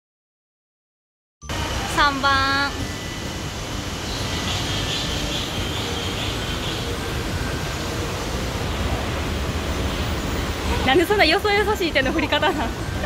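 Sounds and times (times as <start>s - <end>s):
rumbling hum and hiss: 1.5s - 13.0s.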